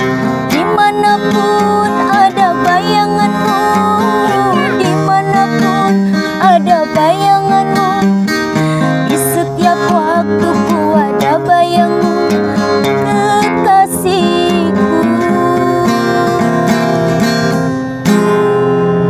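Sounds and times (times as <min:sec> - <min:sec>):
acoustic guitar picking: 0:00.0 - 0:19.0
guitar strum: 0:00.0 - 0:19.0.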